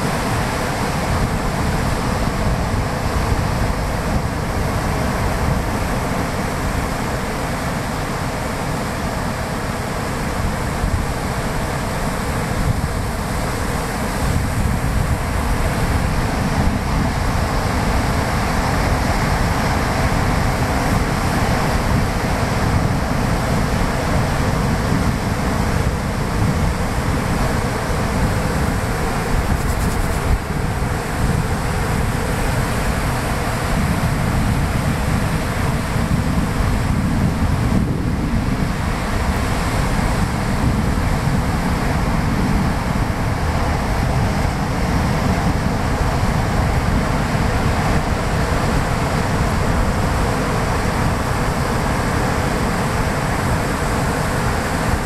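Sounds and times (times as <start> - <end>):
surf washing onto beach: 0.0 - 55.0
wind buffeting microphone: 0.0 - 55.0.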